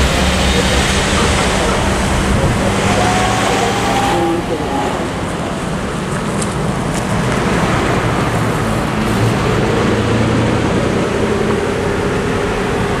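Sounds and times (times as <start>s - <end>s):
pickup truck engine hum: 0.0s - 13.0s
road traffic: 0.0s - 13.0s.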